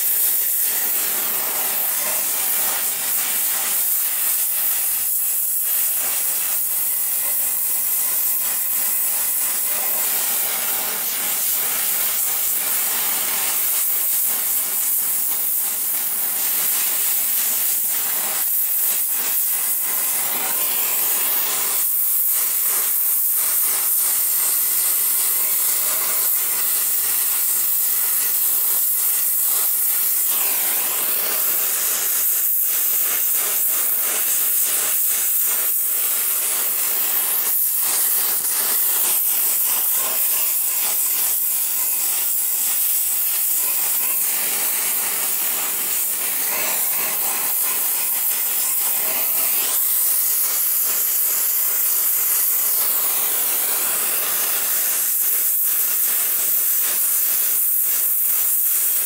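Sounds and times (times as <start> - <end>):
gas torch flame hissing: 0.0 - 59.0.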